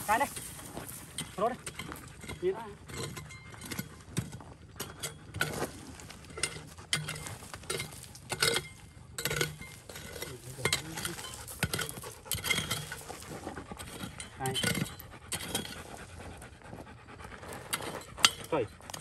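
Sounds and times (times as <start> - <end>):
scraping with clicks and clinks: 0.0 - 19.0.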